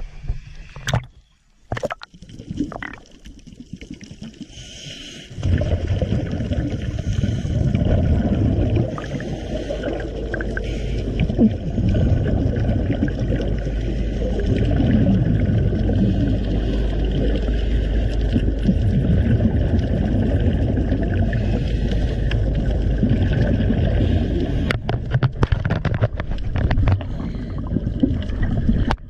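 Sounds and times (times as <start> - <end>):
underwater regulator bubbling: 0.3 - 4.6, 5.4 - 29.0.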